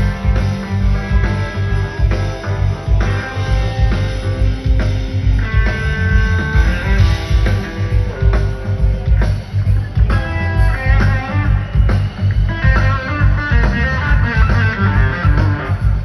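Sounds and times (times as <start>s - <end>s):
bass guitar: 0.0s - 16.0s
electric guitar lead: 0.0s - 16.0s
steady drum beat: 0.0s - 16.0s.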